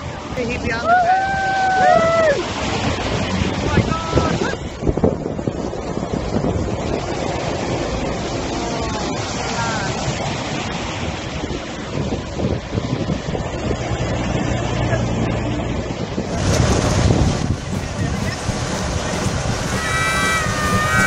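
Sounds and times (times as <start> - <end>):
vehicles on wet road: 0.0 - 21.0
wind buffeting microphone: 0.0 - 21.0
low engine hum: 2.1 - 21.0.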